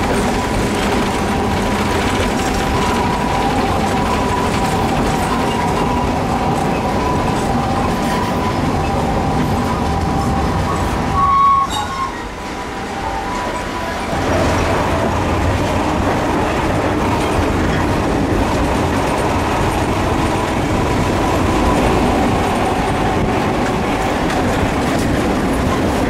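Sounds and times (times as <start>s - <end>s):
tram wheels rumbling on rail: 0.0s - 26.0s.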